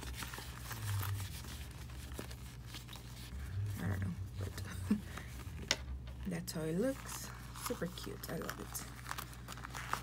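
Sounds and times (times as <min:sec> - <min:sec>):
faint rustling and handling: 0:00.0 - 0:10.0
steady low hum: 0:00.0 - 0:10.0.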